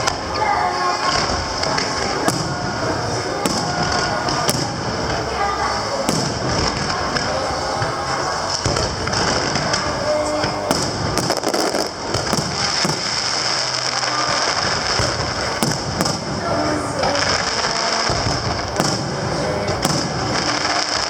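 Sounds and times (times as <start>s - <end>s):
fireworks bangs: 0.0s - 21.0s
fireworks crackling: 0.0s - 21.0s
music: 0.0s - 21.0s.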